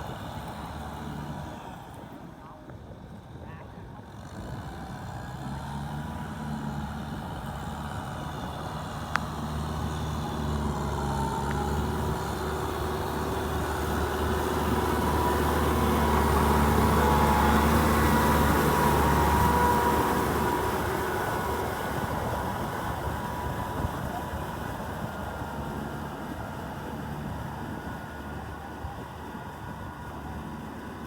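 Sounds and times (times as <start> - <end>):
tractor diesel engine running: 0.0 - 2.4, 4.0 - 31.0.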